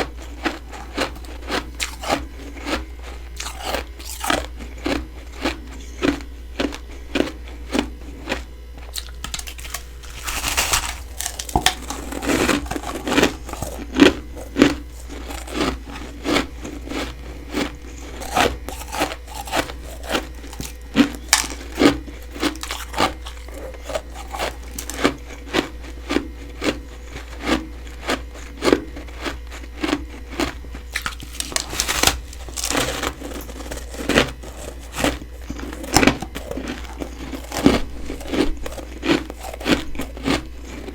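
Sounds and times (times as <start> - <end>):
chewing crisp frost: 0.0 - 40.9.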